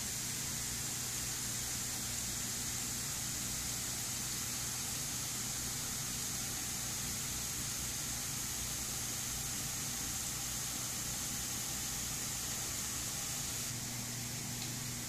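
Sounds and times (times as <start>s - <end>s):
misting nozzles hissing: 0.0s - 15.0s.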